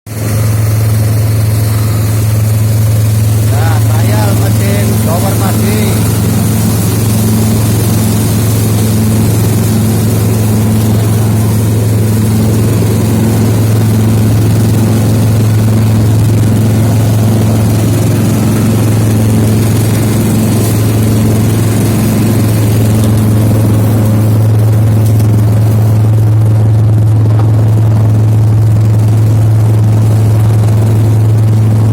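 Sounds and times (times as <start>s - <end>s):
blower machine low hum: 0.1s - 31.9s.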